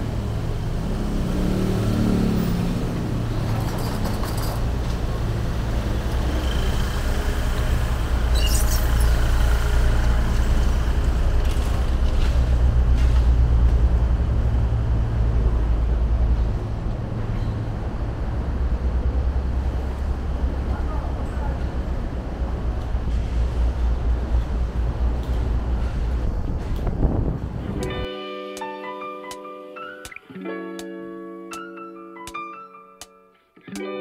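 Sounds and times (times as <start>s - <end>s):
traffic rumble: 0.0s - 28.1s.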